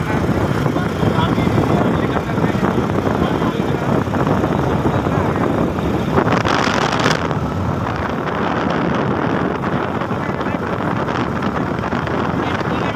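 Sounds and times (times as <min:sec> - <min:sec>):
road noise: 0:00.0 - 0:12.9
wind buffeting microphone: 0:00.0 - 0:12.9.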